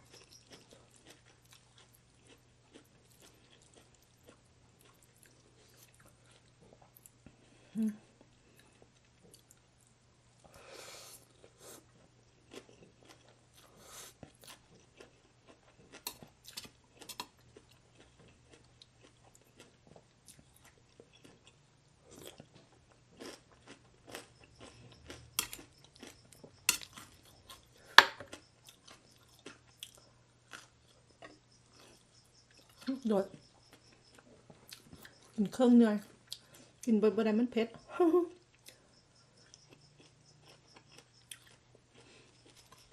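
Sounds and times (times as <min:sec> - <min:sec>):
person chewing and crunching: 0:00.0 - 0:36.9, 0:38.5 - 0:42.9.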